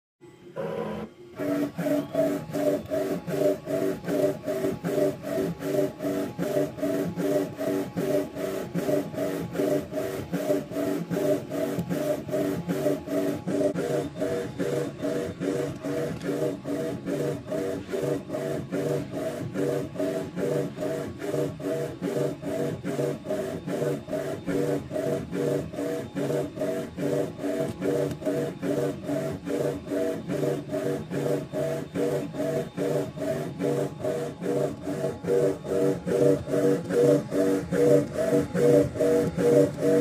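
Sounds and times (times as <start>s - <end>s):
printer carriage motor whine: 0.2s - 40.0s.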